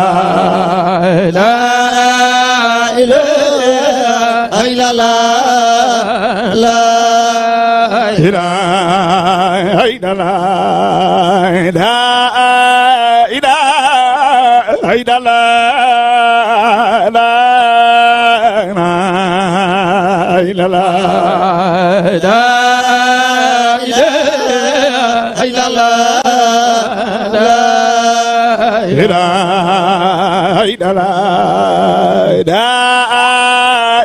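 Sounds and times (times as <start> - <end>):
man chanting: 0.0 - 34.0.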